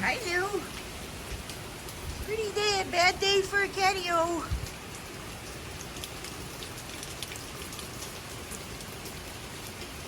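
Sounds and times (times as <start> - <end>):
hard rain: 0.0 - 10.0
raindrops ticking close by: 0.0 - 10.0.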